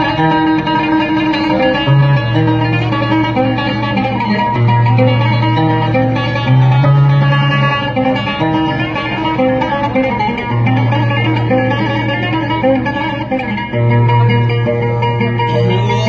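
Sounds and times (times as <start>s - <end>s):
oud playing: 0.0s - 16.0s.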